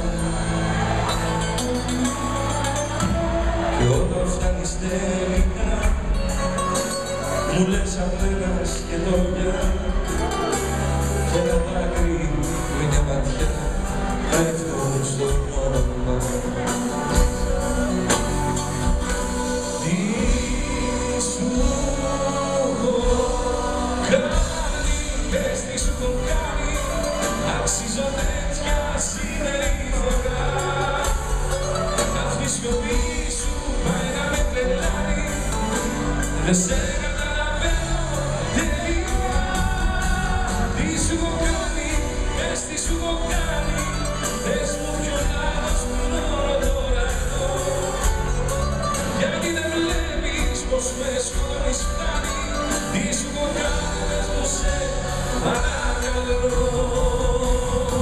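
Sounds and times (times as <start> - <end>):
live band playing pop song: 0.0 - 58.0
person singing: 0.0 - 58.0.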